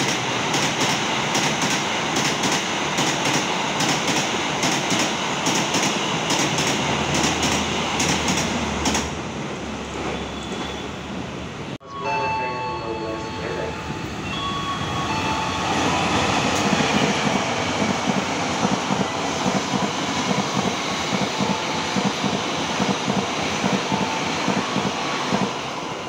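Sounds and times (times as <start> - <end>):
train wheels rushing on rails: 0.0 - 11.8, 14.1 - 26.0.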